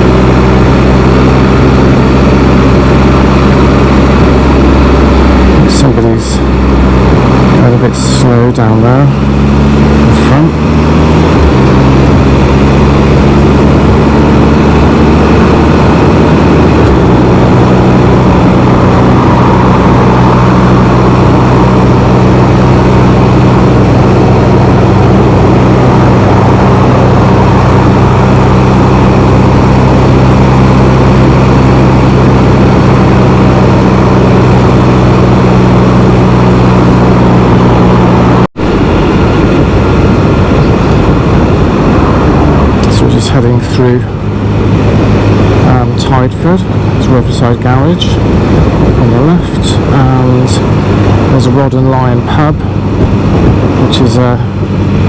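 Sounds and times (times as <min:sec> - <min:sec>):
motorbike engine cruising: 0:00.0 - 0:55.0
wind and road rush: 0:00.0 - 0:55.0.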